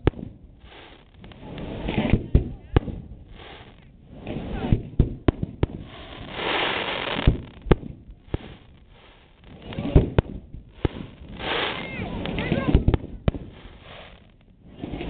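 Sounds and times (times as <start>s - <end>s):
firework hissing: 0.0s - 15.0s
firework shells bursting: 0.0s - 15.0s.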